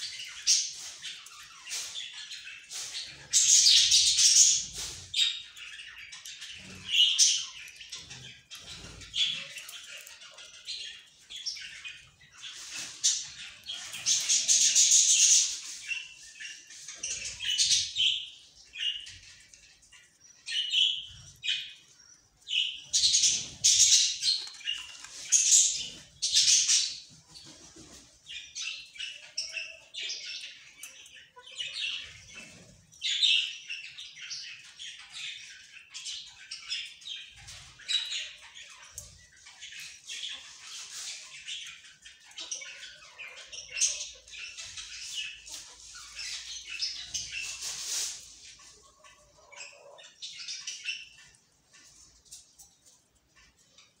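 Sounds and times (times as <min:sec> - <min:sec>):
lovebirds chirping and squawking: 0:00.0 - 0:54.0.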